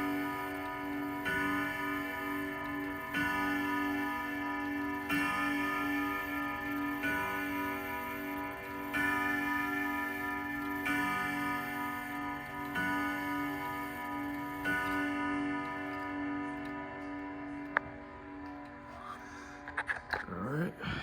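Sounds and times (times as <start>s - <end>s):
grandfather clock chimes: 0.0s - 19.7s.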